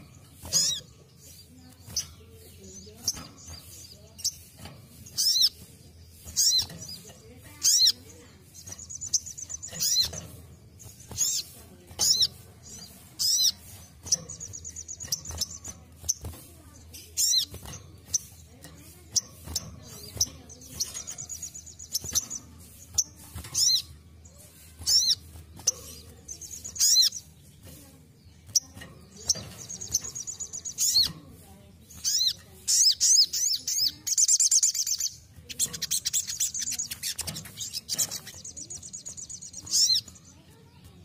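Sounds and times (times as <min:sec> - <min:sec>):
bird sharp high chirps: 0:00.0 - 0:40.8
high buzzy bird trills: 0:00.0 - 0:40.8.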